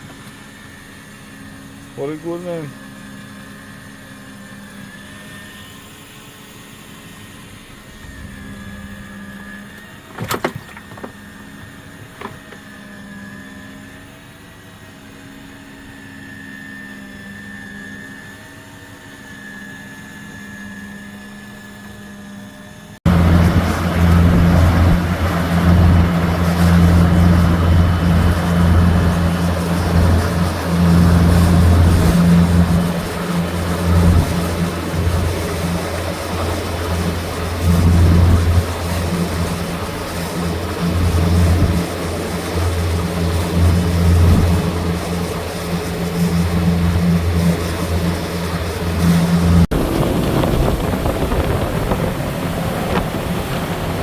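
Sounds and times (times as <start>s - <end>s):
boat engine running: 0.0s - 22.2s, 22.8s - 54.0s.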